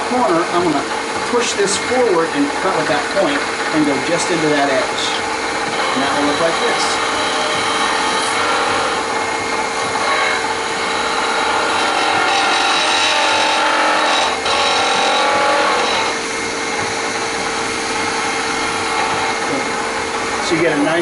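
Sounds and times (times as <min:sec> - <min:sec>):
chisel scraping spinning wood: 0:00.0 - 0:21.0
lathe humming: 0:00.0 - 0:21.0.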